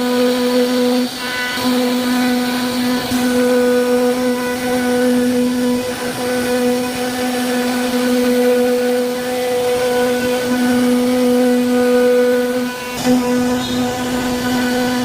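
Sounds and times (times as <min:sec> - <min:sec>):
router spindle motor whining: 0:00.0 - 0:15.0.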